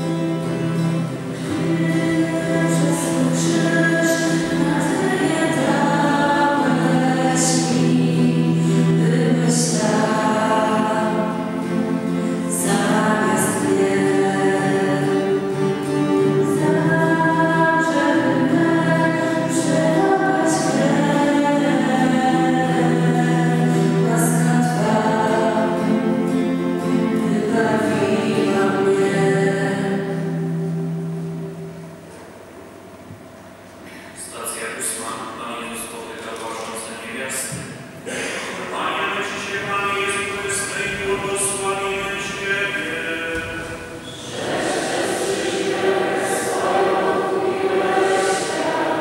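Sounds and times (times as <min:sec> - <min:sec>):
group singing a hymn: 0:00.5 - 0:31.4, 0:40.4 - 0:49.0.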